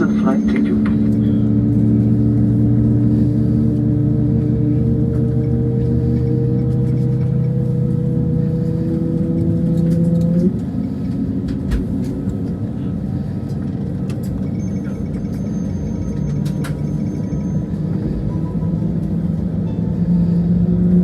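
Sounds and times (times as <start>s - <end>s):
cabin low rumble: 0.0s - 21.0s
humming drone: 0.0s - 21.0s.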